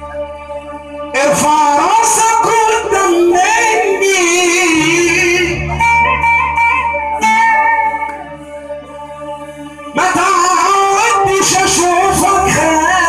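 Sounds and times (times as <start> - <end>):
electronic keyboard melody: 0.0 - 13.0
keyboard chords over bass note: 0.0 - 13.0.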